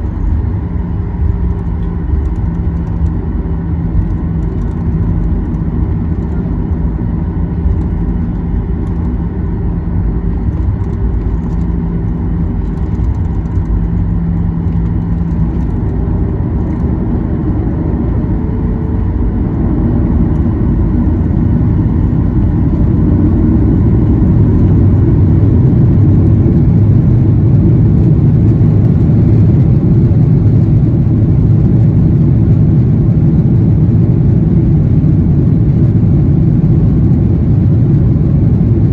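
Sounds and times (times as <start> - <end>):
jet engines low rumble: 0.0 - 38.9.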